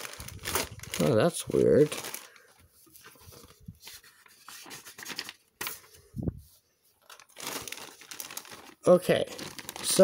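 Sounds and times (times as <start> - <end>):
plastic packaging rustling: 0.0 - 5.9, 6.9 - 10.0.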